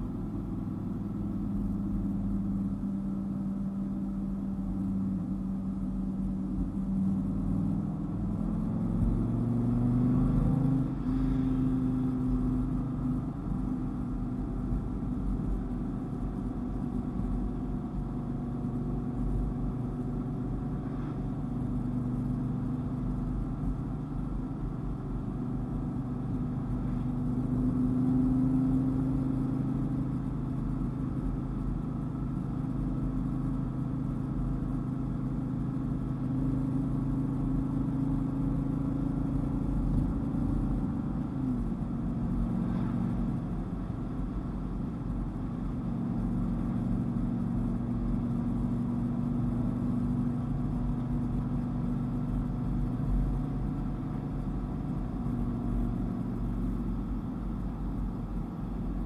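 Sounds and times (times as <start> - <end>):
car engine revving and droning: 0.0 - 59.0
low road rumble: 0.0 - 59.0.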